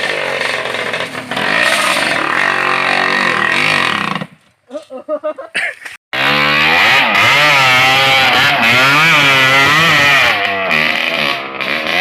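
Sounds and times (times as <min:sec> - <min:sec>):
motorcycle engine revving: 0:00.0 - 0:04.4, 0:06.2 - 0:12.0.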